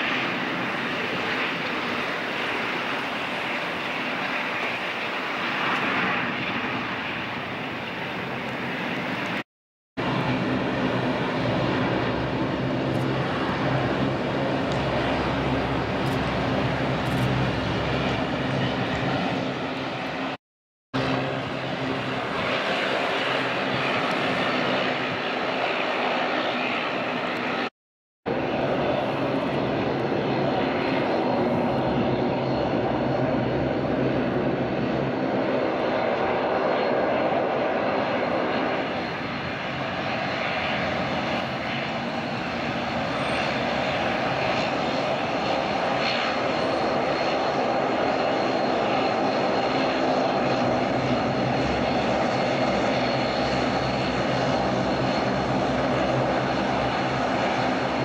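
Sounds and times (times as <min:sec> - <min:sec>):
turboprop engines droning: 0:10.0 - 0:20.4, 0:21.0 - 0:27.7, 0:28.3 - 0:58.0.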